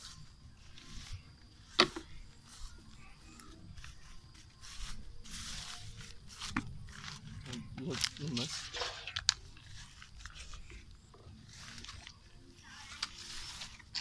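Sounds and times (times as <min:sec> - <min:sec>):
footsteps through dry leaves: 0:00.0 - 0:14.0.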